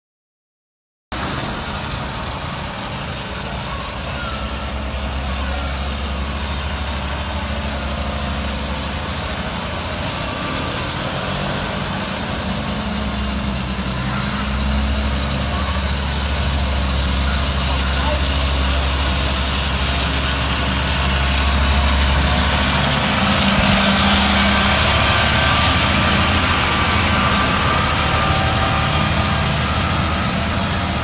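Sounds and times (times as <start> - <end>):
diesel engine running: 1.1 - 31.0
steady hiss: 1.2 - 31.0.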